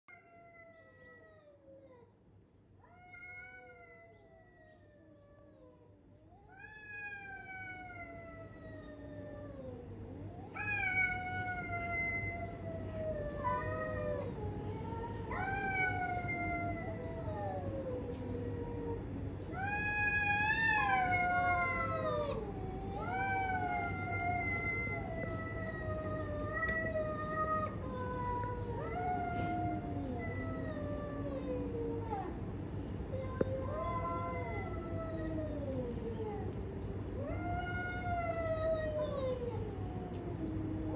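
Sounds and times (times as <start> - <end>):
cats yowling: 0.1 - 2.2, 2.8 - 40.9.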